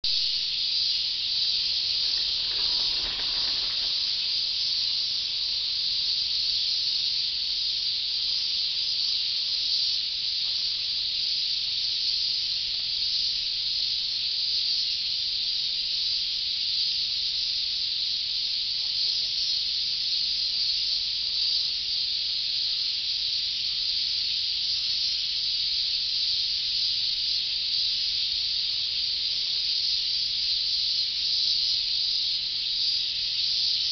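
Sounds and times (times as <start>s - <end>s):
cicadas chorus: 0.0s - 33.9s.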